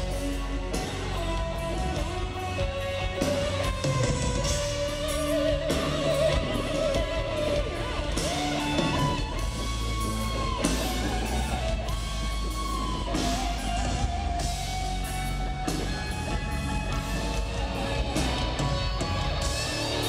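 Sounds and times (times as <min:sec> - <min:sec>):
bending lead guitar notes: 0:00.0 - 0:20.0
live rock band playing: 0:00.0 - 0:20.0.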